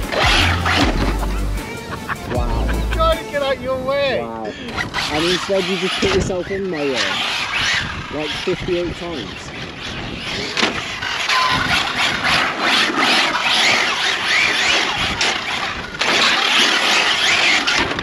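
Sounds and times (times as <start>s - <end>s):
tyres scrubbing on concrete: 0.0s - 3.4s, 4.8s - 18.0s.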